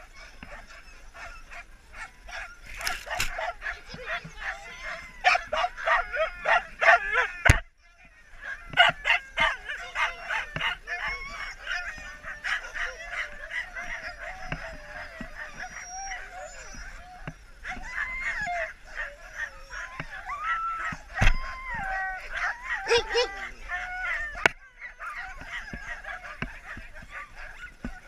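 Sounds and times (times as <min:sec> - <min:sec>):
huskies barking and yelping: 0:00.0 - 0:28.0.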